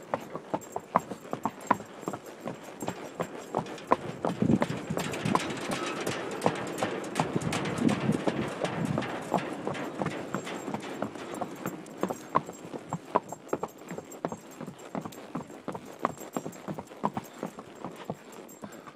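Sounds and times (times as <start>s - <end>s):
hooves clopping on wooden boards: 0.0s - 18.9s.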